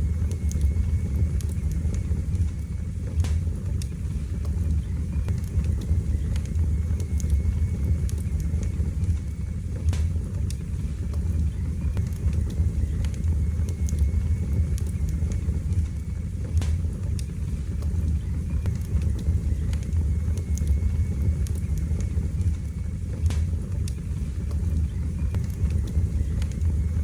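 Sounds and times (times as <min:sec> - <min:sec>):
fire crackles and pops: 0:00.0 - 0:27.0
wood fire rumbling: 0:00.0 - 0:27.0.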